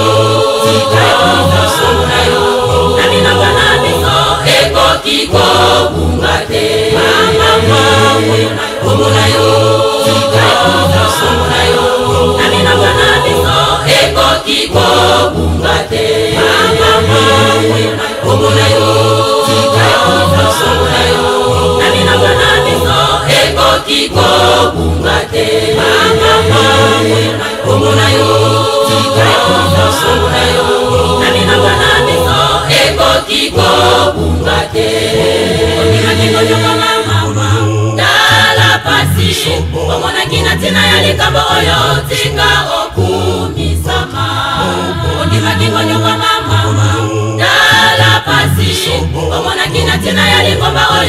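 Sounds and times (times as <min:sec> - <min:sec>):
pulsing low accompaniment: 0:00.0 - 0:51.0
women's choir singing: 0:00.0 - 0:51.0.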